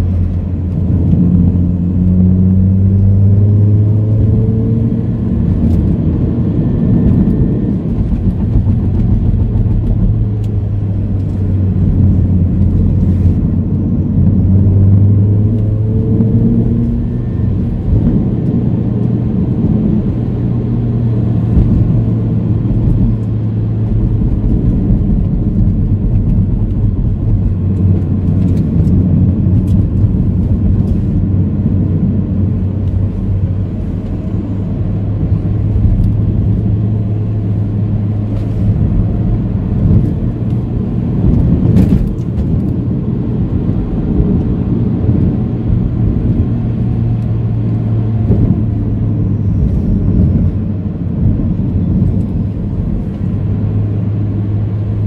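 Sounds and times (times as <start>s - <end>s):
car engine droning: 0.0s - 55.0s
tyre and road rumble: 0.0s - 55.0s.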